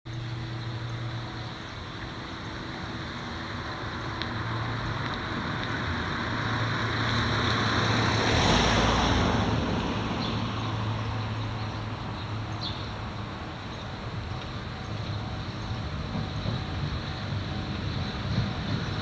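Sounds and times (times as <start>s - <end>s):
train rushing past: 0.1s - 19.0s.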